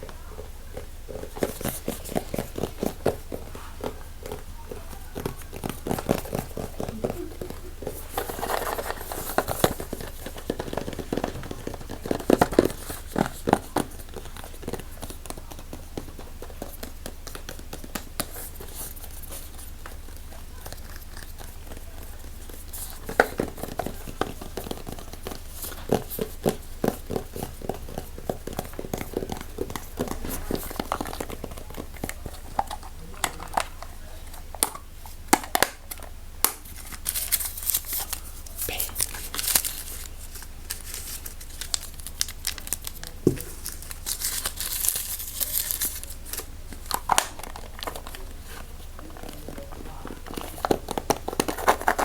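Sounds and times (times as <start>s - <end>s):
crinkling: 0.0s - 52.0s.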